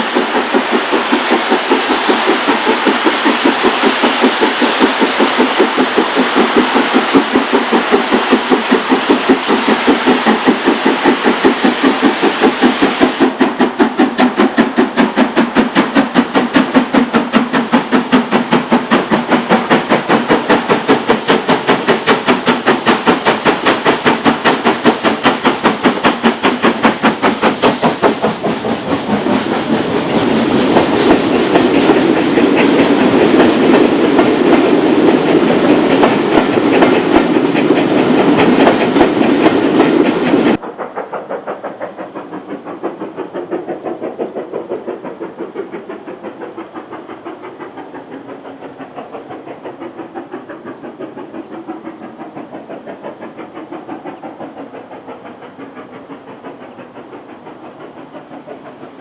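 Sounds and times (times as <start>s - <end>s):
steam locomotive exhaust beats: 0.0s - 59.0s
train running past rumble: 0.0s - 59.0s.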